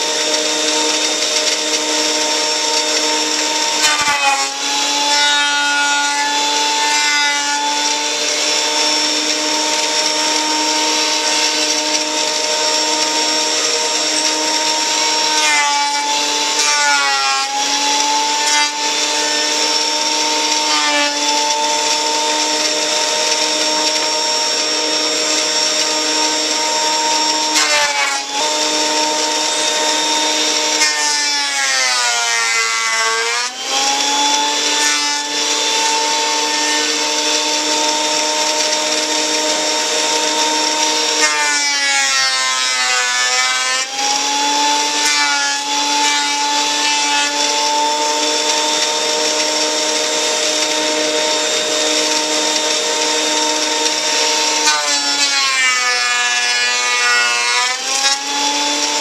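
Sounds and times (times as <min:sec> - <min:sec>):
thickness planer running: 0:00.0 - 0:59.0.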